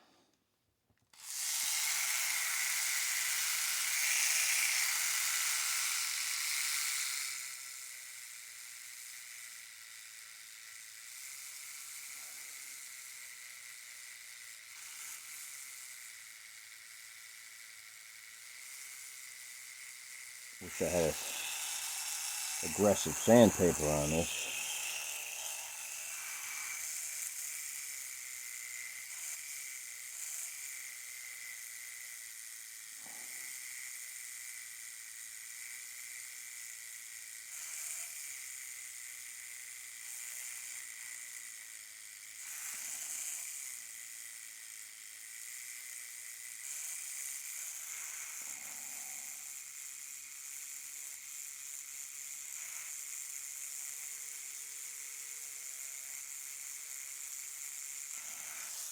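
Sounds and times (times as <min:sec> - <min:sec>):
rotary tool grinding: 0:01.1 - 0:34.1, 0:42.4 - 0:58.9.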